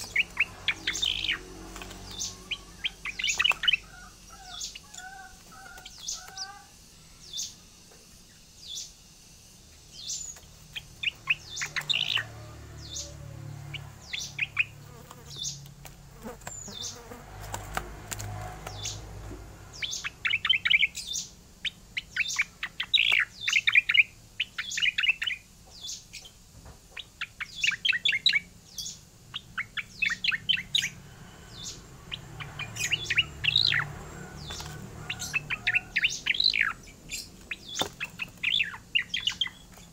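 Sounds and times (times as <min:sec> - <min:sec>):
songbird rapid chirping: 0:00.0 - 0:39.9.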